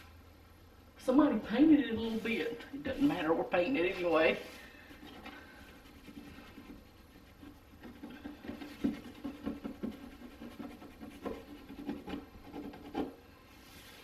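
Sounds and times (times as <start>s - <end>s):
cloth scrubbing wooden cabinet: 1.7s - 14.0s.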